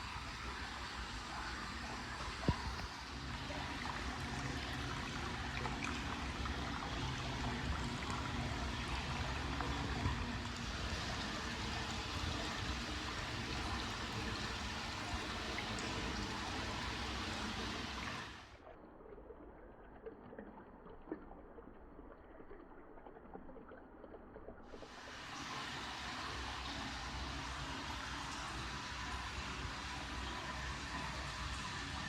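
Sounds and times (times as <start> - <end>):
water pouring into a bath: 0.0 - 32.0.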